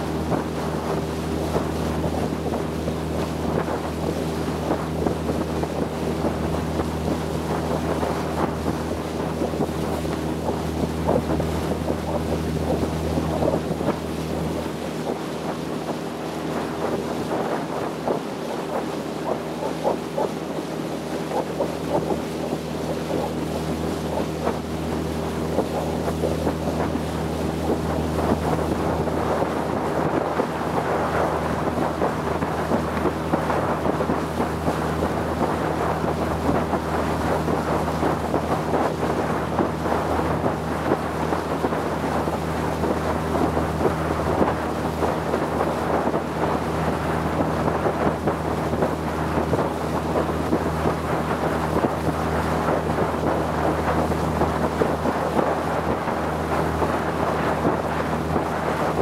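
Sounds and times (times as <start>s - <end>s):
motorboat engine droning: 0.0s - 59.0s
water rushing: 0.0s - 59.0s
wind: 0.0s - 59.0s.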